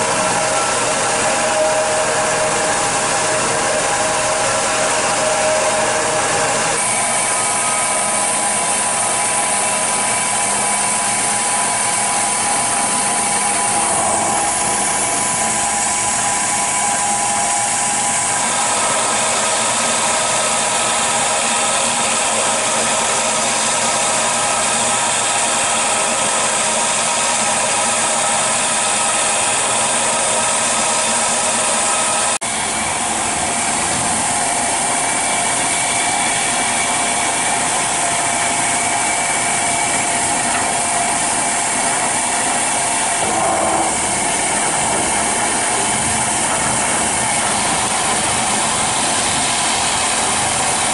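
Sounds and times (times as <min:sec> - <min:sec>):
milling machine whining: 0:00.0 - 0:50.9.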